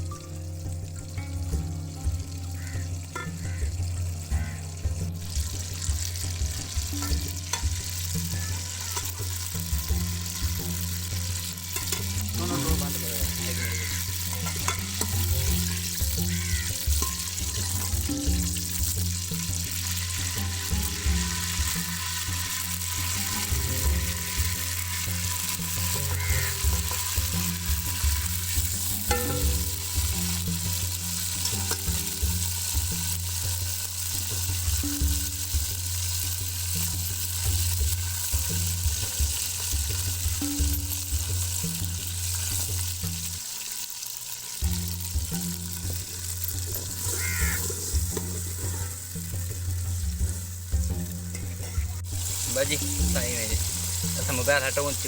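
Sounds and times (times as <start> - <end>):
food sizzling in a pan: 0.0 - 55.0
stirring in a pan: 5.2 - 55.0.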